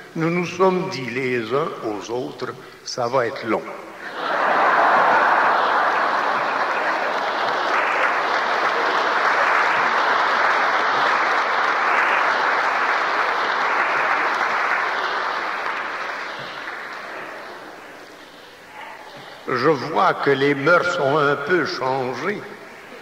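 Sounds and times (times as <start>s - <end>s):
congregation applauding: 4.0s - 23.0s.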